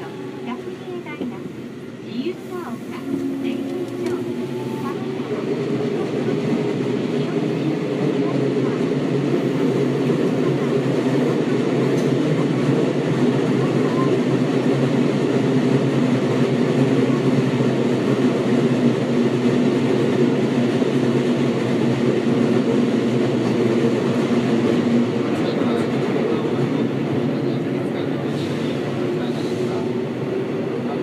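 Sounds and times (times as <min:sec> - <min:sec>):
train rail and wheel noise: 0:00.0 - 0:31.0.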